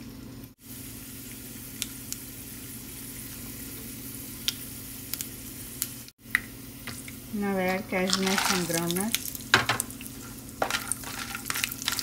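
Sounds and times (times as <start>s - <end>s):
seeds sizzling in hot oil: 0.5s - 12.0s.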